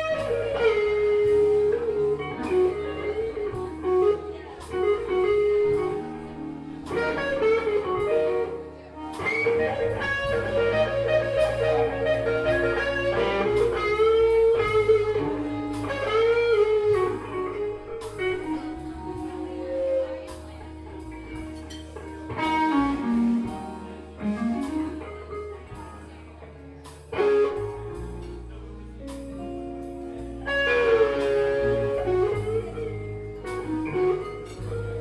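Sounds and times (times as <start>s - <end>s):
electric guitar bent notes: 0.0s - 26.0s, 26.8s - 35.0s
electric blues band playing: 0.0s - 35.0s.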